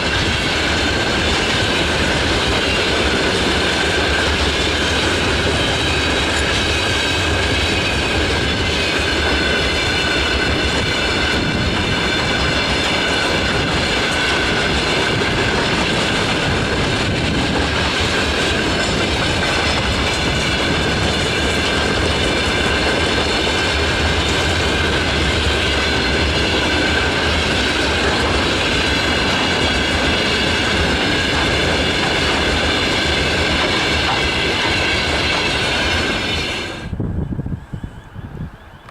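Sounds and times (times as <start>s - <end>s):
train wheels clattering on rails: 0.0s - 37.0s
high squealing wheels: 0.0s - 38.9s.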